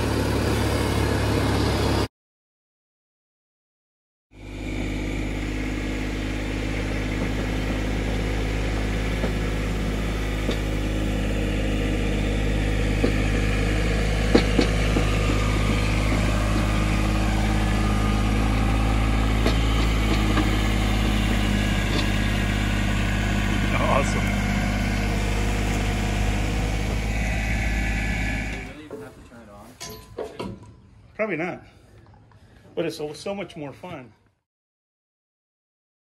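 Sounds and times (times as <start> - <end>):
vehicle engine humming: 0.0 - 2.1, 4.4 - 34.1.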